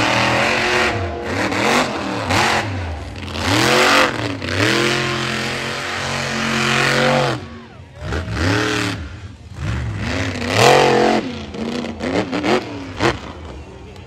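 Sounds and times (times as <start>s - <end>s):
truck engine revving hard: 0.0s - 13.6s.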